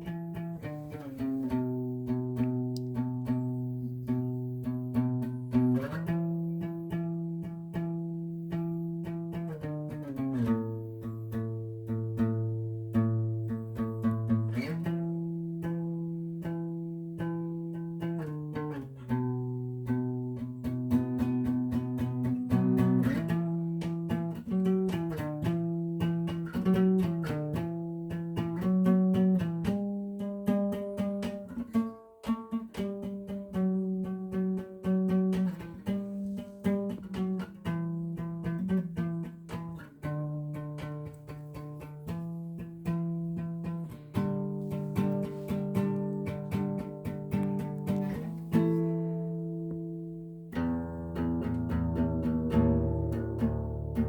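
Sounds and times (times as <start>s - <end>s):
guitar plucked notes and chords: 0.0s - 54.0s.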